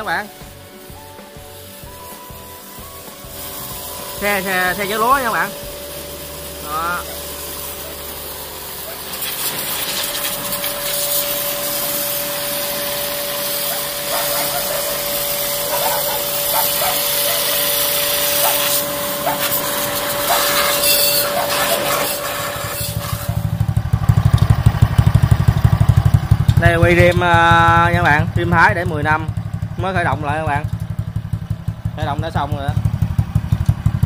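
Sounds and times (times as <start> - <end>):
pressure washer spraying: 0.0 - 31.9
motorcycle engine starting and idling: 1.9 - 20.7, 21.5 - 34.0.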